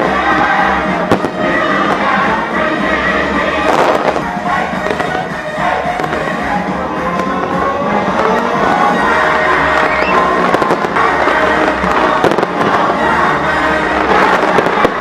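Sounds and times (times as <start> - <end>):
fireworks bursting: 0.0 - 15.0
loud show music: 0.0 - 15.0.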